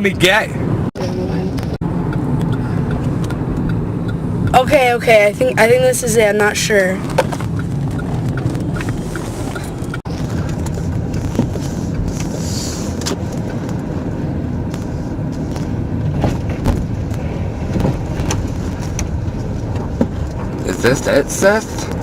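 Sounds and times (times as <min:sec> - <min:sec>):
car engine rumble and road noise: 0:00.0 - 0:22.0.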